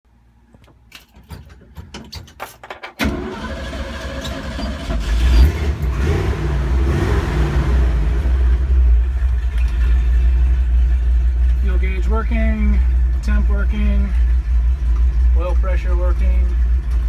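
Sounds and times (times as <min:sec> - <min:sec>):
car engine starting and running: 0:03.0 - 0:17.0.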